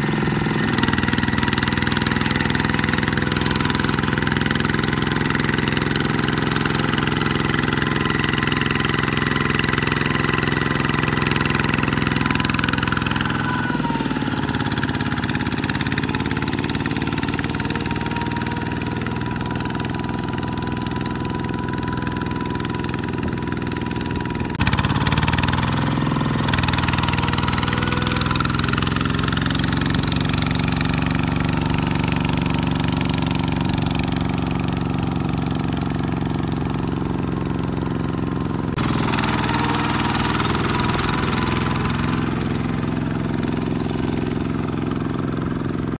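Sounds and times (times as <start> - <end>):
diesel tractor engine running: 0.0 - 46.0.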